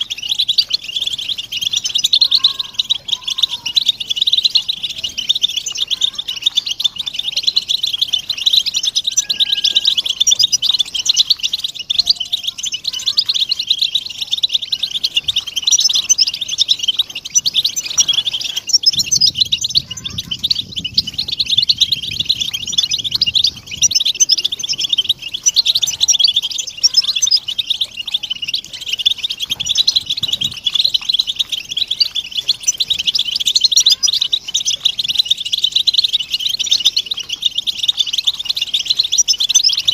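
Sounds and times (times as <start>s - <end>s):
flock of finches twittering: 0.0s - 39.9s.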